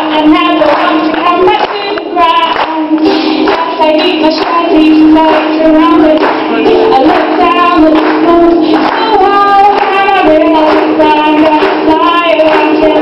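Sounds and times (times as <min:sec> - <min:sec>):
ukulele: 0:00.0 - 0:13.0
young female voice singing: 0:00.0 - 0:13.0.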